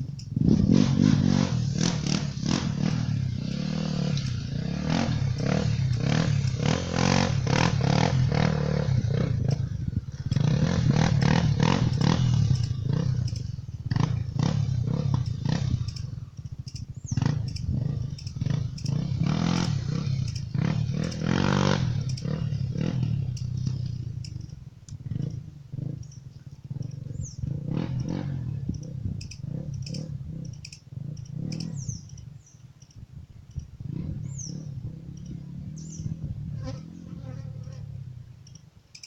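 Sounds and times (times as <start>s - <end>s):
motorcycle engine revving under load: 0.0s - 32.6s, 33.4s - 39.0s.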